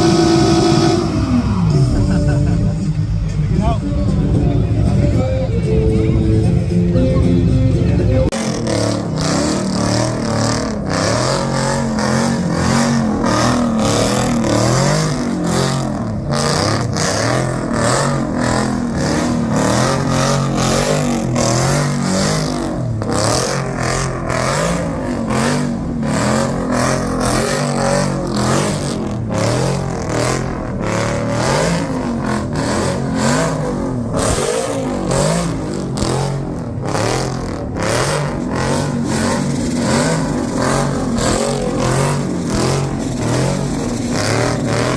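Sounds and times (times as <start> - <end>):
car engine revving hard: 0.0 - 3.8, 8.3 - 44.9.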